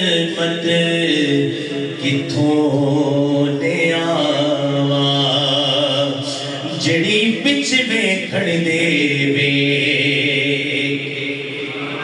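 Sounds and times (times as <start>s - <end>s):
man singing a long note: 0.0s - 12.0s.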